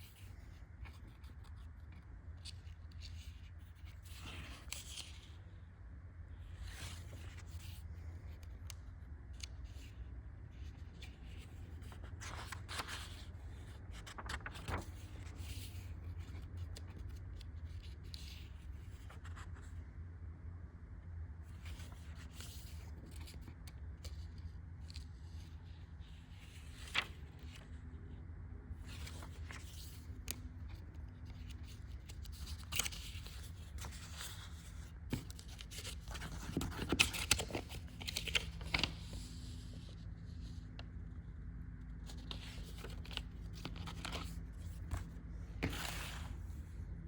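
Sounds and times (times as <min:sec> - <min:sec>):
paper pages rustling and turning: 0:00.0 - 0:05.4, 0:06.6 - 0:19.8, 0:21.5 - 0:27.8, 0:28.8 - 0:40.8, 0:42.0 - 0:46.8
steady low hum: 0:00.0 - 0:47.0.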